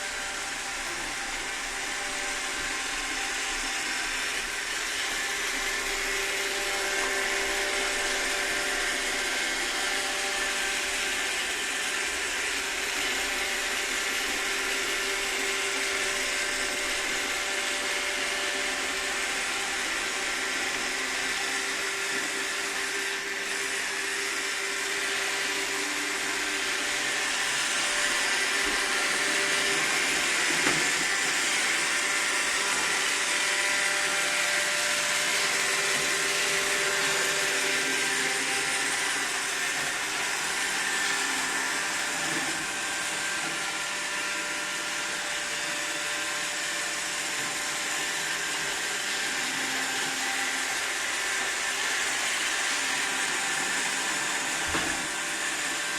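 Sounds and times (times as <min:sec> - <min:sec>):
robot vacuum whirring: 0:00.0 - 0:55.9.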